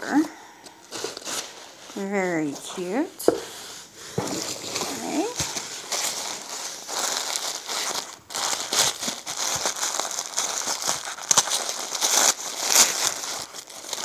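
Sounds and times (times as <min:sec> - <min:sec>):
paper and bubble wrap crinkling: 0:00.0 - 0:14.0.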